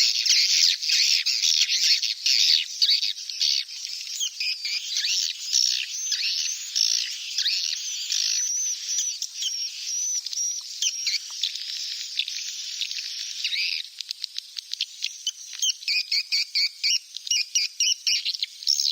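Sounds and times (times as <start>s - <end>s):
swiftlet chicks chirping chorus: 0.0s - 18.8s.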